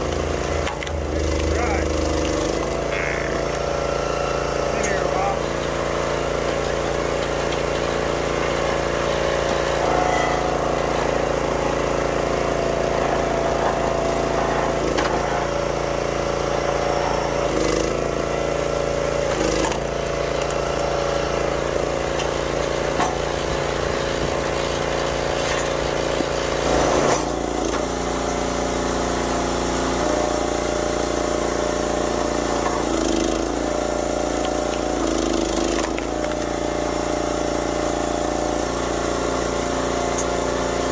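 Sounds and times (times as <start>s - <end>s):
small gas engine running: 0.0s - 40.9s.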